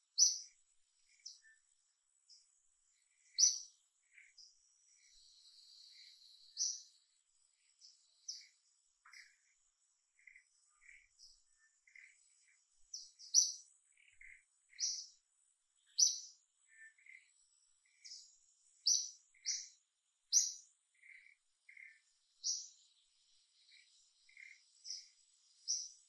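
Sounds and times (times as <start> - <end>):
birds chirping: 0.0 - 26.0
faint high insect whine: 0.1 - 26.0.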